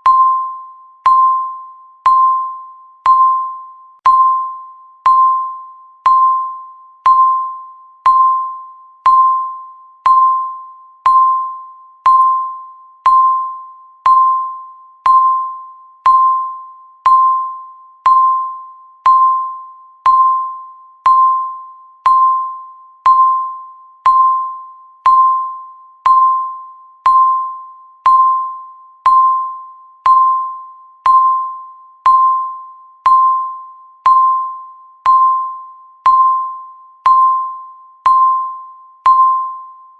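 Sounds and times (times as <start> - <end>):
timer ping: 0.0 - 39.9.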